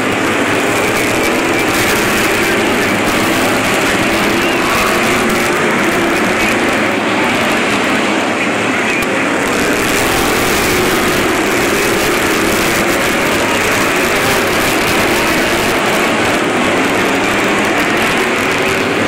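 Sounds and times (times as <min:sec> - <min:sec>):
race car engines roaring: 0:00.0 - 0:19.0.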